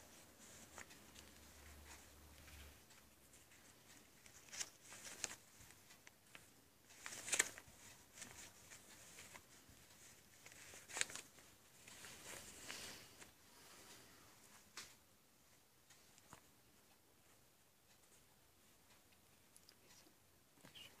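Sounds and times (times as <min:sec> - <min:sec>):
fabric and felt rustling: 0:00.0 - 0:19.0.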